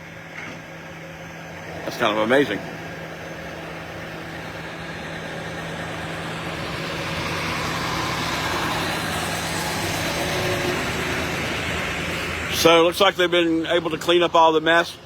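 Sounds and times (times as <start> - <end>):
heavy truck engine humming: 0.0 - 15.0.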